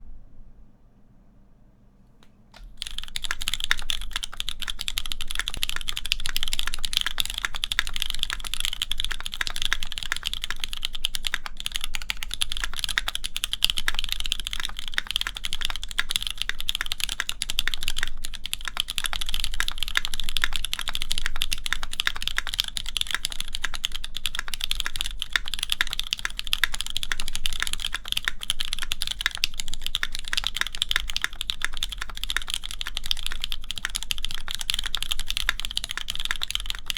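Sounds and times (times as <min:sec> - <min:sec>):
mechanical keyboard key clacks: 0:02.6 - 0:36.9.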